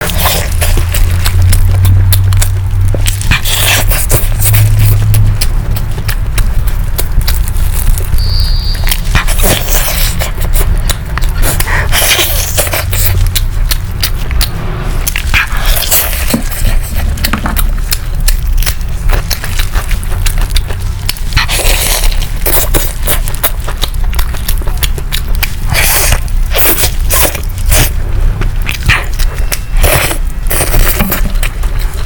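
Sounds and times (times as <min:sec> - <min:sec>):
crunching and wet chewing: 0:00.0 - 0:32.0
steady low hum: 0:00.0 - 0:32.0.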